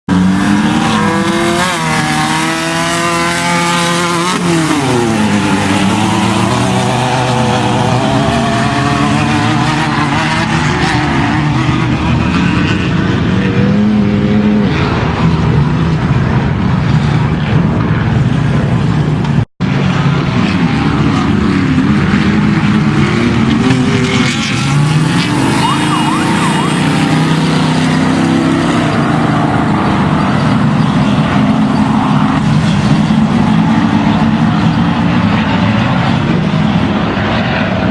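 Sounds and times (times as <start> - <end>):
truck engine revving: 0.1 - 16.2, 19.7 - 37.0.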